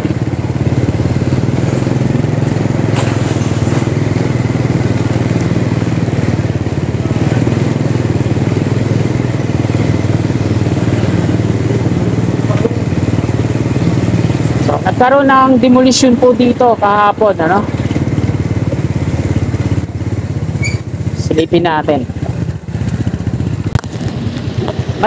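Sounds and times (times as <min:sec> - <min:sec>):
motorcycle engine running: 0:00.0 - 0:25.0
street noise: 0:00.0 - 0:25.0.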